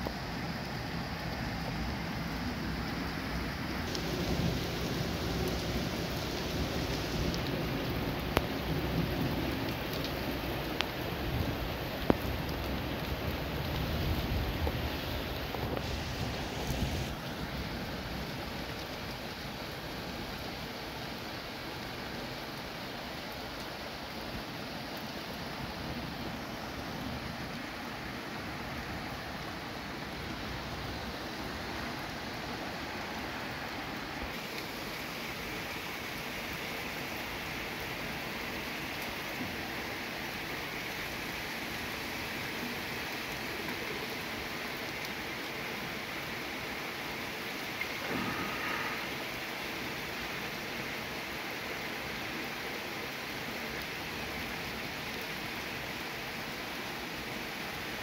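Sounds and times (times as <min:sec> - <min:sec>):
floodwater rushing: 0:00.0 - 0:56.4
heavy rain: 0:00.0 - 0:58.0.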